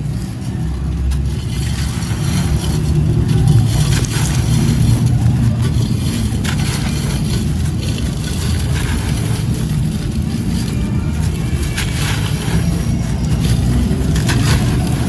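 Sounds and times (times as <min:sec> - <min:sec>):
concrete crumbling with gritty crunch: 0:00.0 - 0:15.0.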